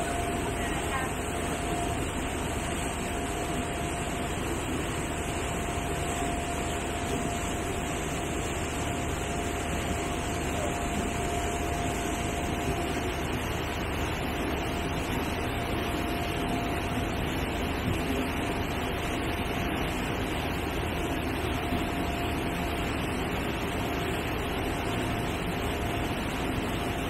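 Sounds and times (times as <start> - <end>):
thin whine: 0.0 - 27.0.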